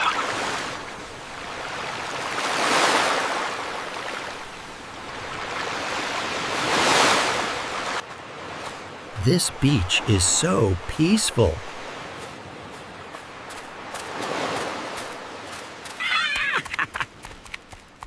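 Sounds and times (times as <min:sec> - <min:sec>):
waves washing onto a beach: 0:00.0 - 0:17.6.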